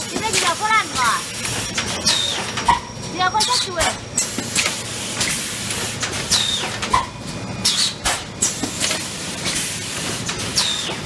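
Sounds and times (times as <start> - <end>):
pneumatic clicks and clacks: 0.0 - 11.0
steady machine noise: 0.0 - 11.0.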